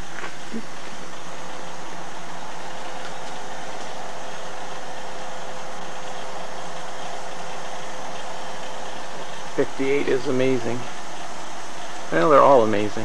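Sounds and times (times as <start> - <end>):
faint constant hum: 0.0 - 13.0
steady hiss: 0.0 - 13.0.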